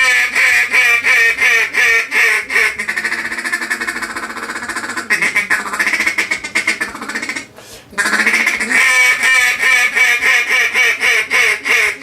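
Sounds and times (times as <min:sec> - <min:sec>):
duck call quacks: 0:00.0 - 0:12.0
duck call rolling chuckle: 0:00.0 - 0:12.0.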